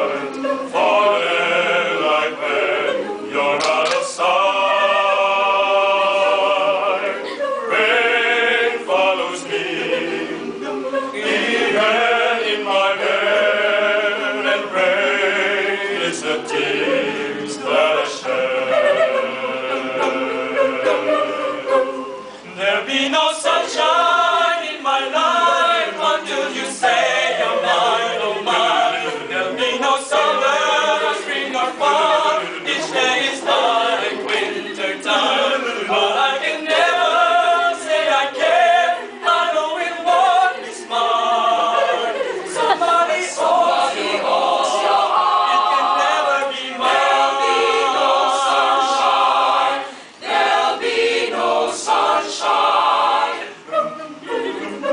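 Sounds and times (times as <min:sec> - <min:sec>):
choir singing a cappella: 0:00.0 - 0:54.9.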